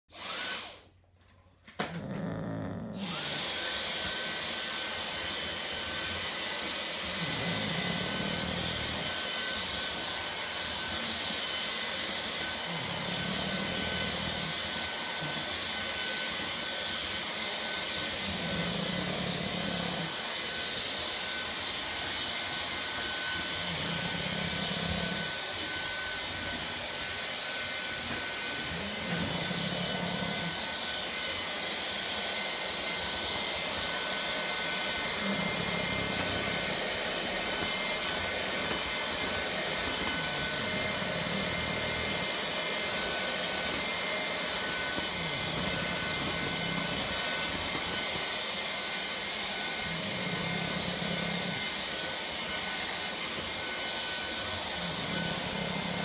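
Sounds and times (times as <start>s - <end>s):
stick vacuum cleaner whining: 0.1s - 56.0s
dog snoring: 1.8s - 31.4s, 32.5s - 48.4s, 49.4s - 56.0s.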